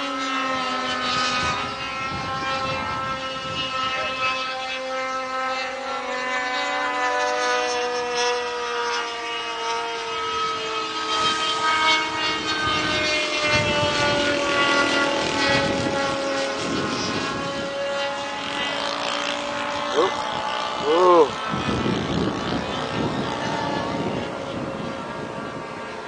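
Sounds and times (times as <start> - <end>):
model airplane engine droning: 0.0 - 26.0.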